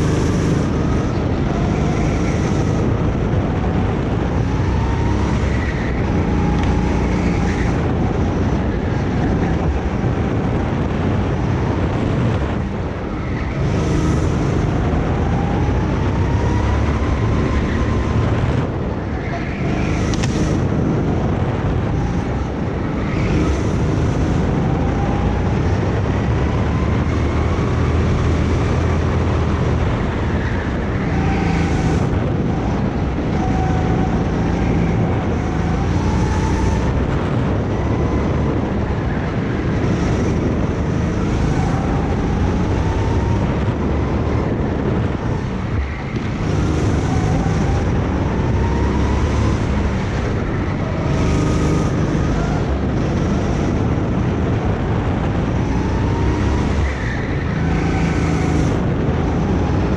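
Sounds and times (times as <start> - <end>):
go-kart engine revving: 0.0 - 59.9
wind on microphone: 0.0 - 59.9.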